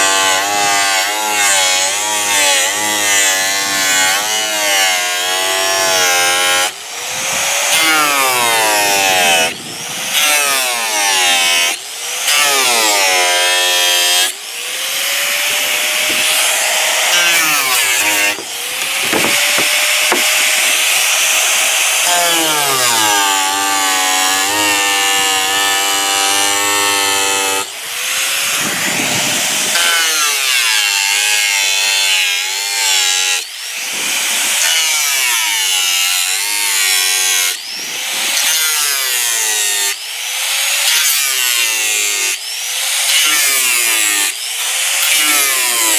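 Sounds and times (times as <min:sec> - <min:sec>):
angle grinder cutting plastic: 0:00.0 - 0:45.9.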